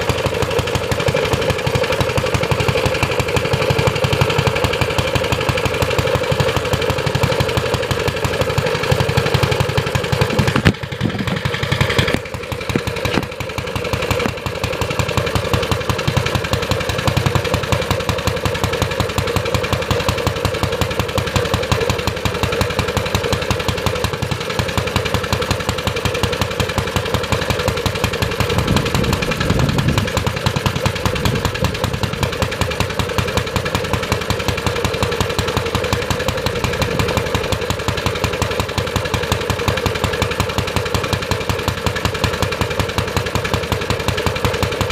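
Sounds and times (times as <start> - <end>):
single-cylinder engine running: 0.0 - 44.9.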